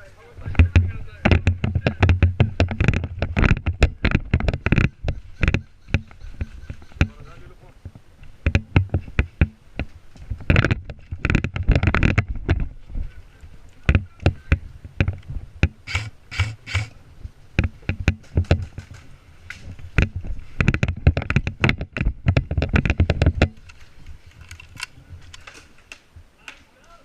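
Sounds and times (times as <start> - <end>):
footsteps and gear rustling: 0.2 - 26.1.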